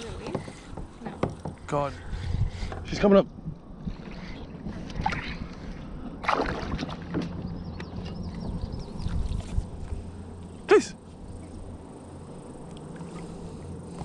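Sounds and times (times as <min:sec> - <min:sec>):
water sloshing around kayak: 0:00.0 - 0:14.0.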